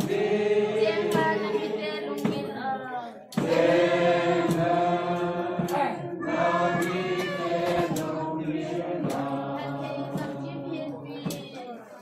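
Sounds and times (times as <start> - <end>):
congregation singing a hymn: 0.0 - 11.7.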